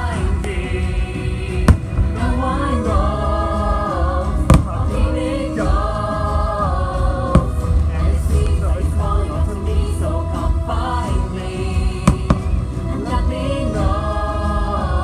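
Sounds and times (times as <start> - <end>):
choir singing over loudspeakers: 0.0 - 15.0.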